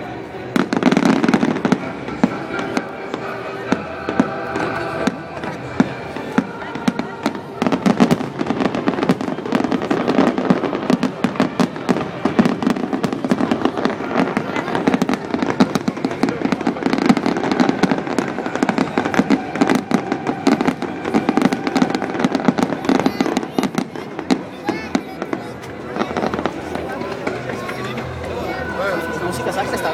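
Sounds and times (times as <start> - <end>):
fireworks bangs and crackles: 0.0 - 29.9.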